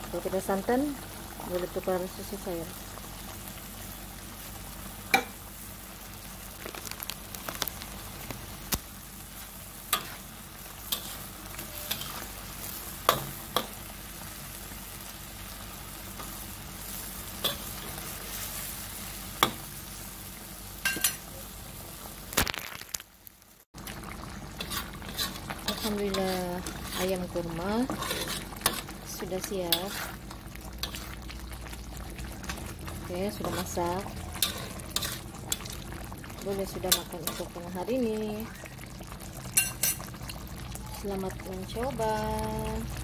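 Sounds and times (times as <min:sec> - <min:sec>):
sauce sizzling in a wok: 0:00.0 - 0:22.3, 0:23.1 - 0:43.0.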